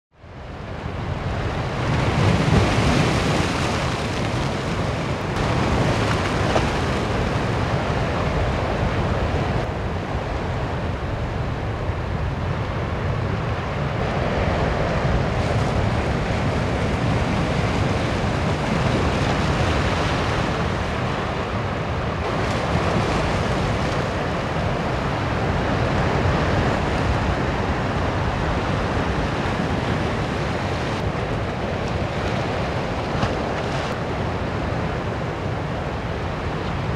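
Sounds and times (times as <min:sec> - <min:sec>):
wind rumble on microphone: 0:00.1 - 0:36.9
sea surf breaking against rocks: 0:00.4 - 0:36.9.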